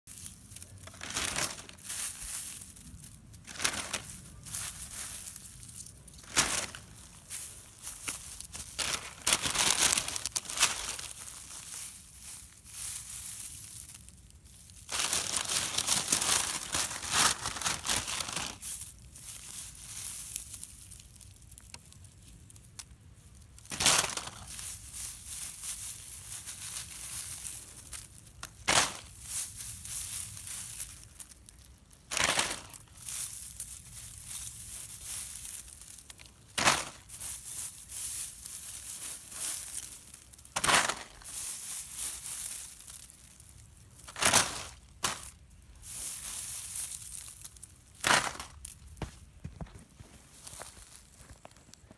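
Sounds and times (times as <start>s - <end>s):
straw crunching and rustling: 0.0s - 51.9s.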